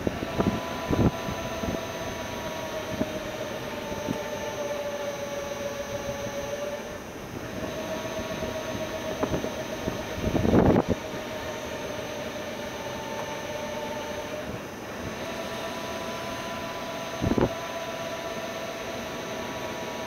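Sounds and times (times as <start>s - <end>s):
electric motor whine: 0.0s - 20.0s.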